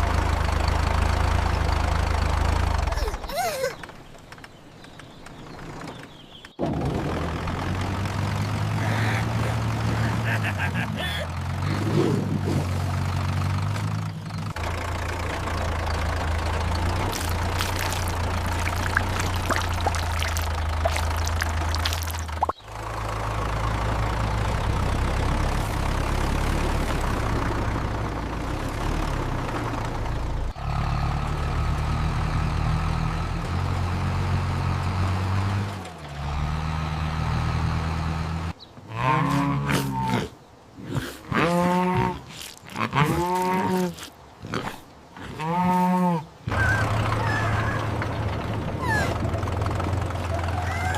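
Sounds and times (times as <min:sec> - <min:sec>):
vehicle engine running: 0:00.0 - 0:38.6, 0:46.5 - 0:50.9.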